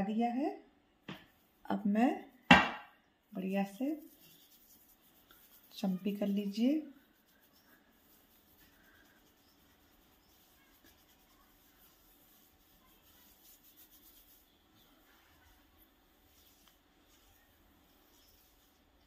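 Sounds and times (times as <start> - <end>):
fingertips rubbing hair on scalp: 3.3 - 19.0.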